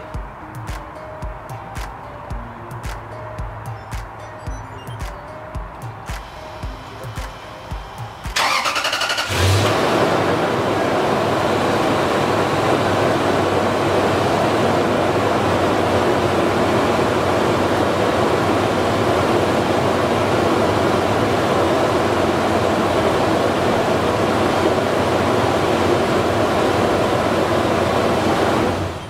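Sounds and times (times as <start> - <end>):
car engine idling: 5.7 - 29.0.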